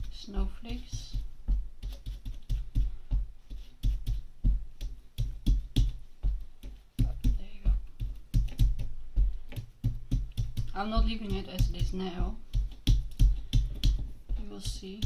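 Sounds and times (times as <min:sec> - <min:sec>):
soft tapping thumps on paper: 0:00.0 - 0:15.0.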